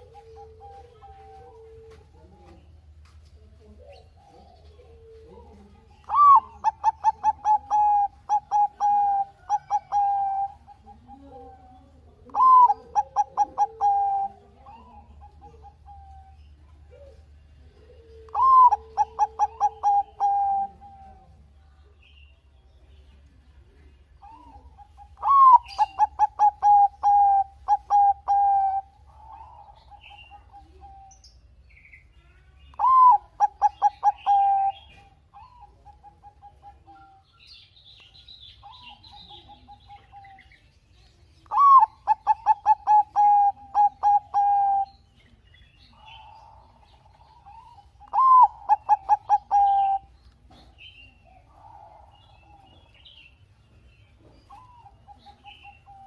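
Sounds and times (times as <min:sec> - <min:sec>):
dove cooing song: 0:00.0 - 0:22.2, 0:22.9 - 0:31.8, 0:32.7 - 0:56.0.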